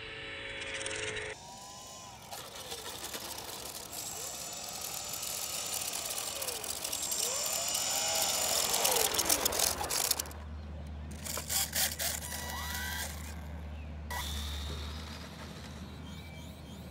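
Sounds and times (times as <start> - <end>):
electric motor and propeller whining: 0.0 - 16.9.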